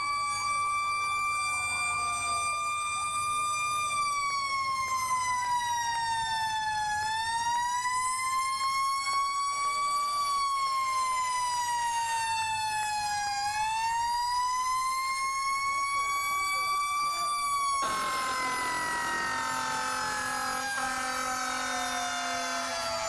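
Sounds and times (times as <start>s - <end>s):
faint sweeping sirens: 0.0s - 23.0s
fire truck siren wailing: 0.0s - 23.0s.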